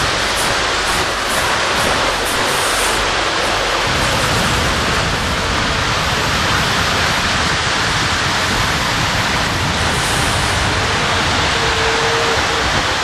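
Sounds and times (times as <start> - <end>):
model train rushing on track: 0.0 - 13.0.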